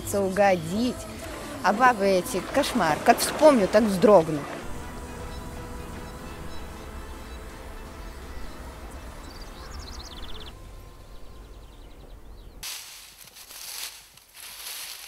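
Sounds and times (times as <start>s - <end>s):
insects buzzing high-pitched: 0.0s - 15.0s.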